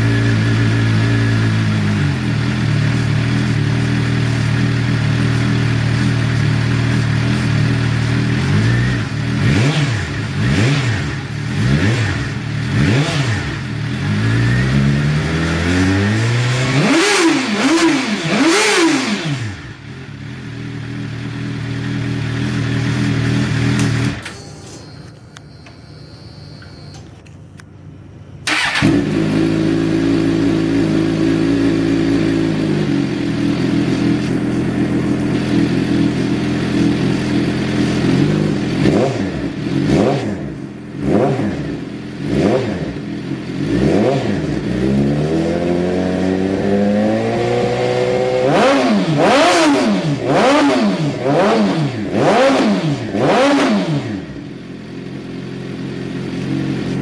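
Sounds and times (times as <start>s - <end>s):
motorcycle engine idling and revving: 0.0s - 25.2s, 27.9s - 57.0s.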